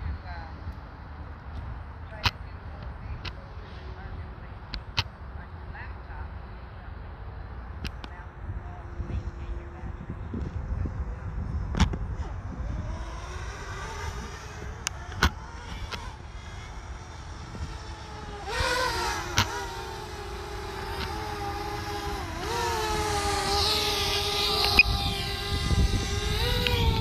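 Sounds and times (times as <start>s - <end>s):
drone propellers humming: 0.0s - 27.0s
low background rumble: 0.0s - 27.0s.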